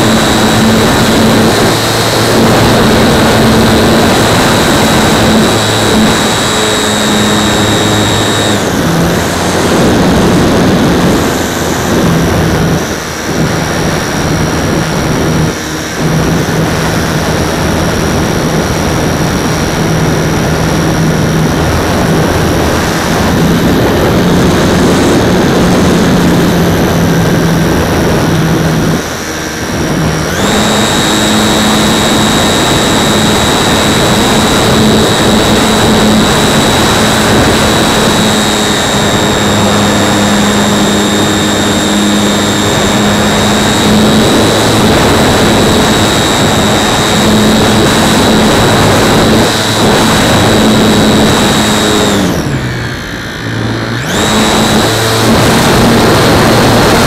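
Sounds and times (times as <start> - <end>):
model plane motor whine: 0.0 - 57.0.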